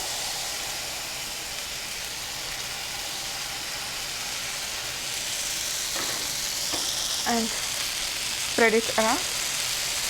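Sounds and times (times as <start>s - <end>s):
batter sizzling in a skillet: 0.0s - 10.0s.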